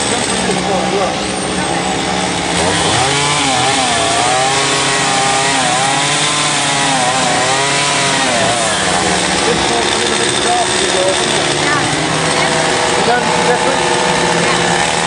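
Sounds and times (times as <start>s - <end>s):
chainsaw carving wood: 0.0s - 15.0s.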